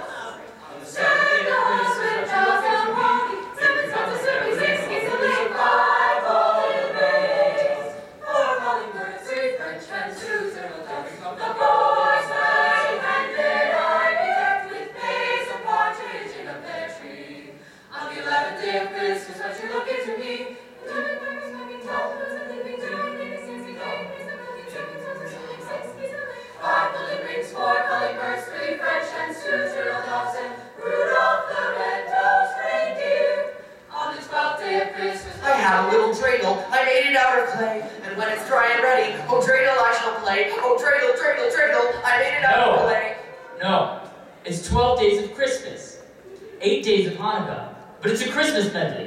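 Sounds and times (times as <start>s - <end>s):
a cappella vocal ensemble singing: 0.0s - 48.9s.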